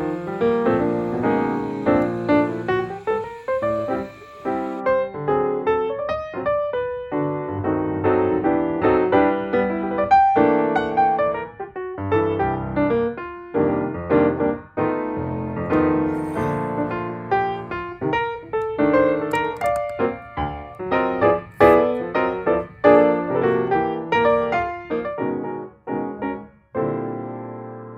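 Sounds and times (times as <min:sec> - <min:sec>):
lively piano music: 0:00.0 - 0:27.9.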